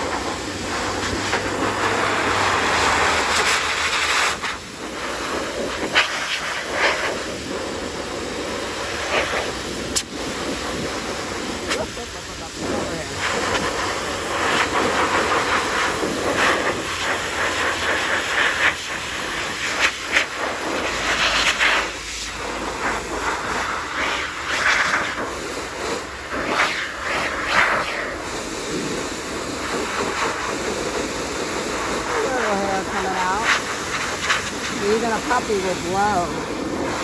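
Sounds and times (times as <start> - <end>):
dog dryer blowing air: 0.0 - 37.0.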